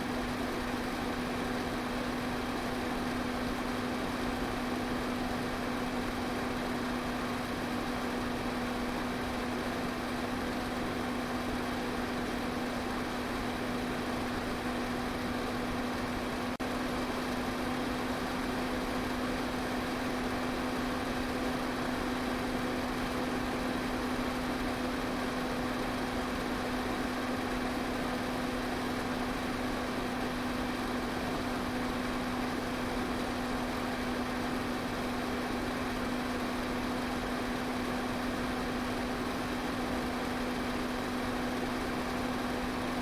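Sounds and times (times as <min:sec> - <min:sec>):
electric fan running: 0:00.0 - 0:43.0.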